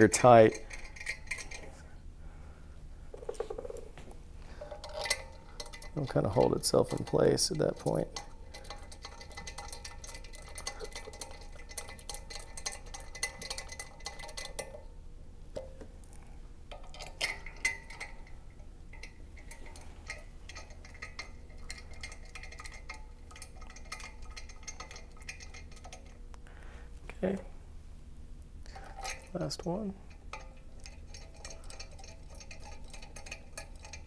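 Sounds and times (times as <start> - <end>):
metallic ticks and scraping: 0.0 - 1.8, 3.1 - 14.9, 16.7 - 26.4, 28.6 - 34.0.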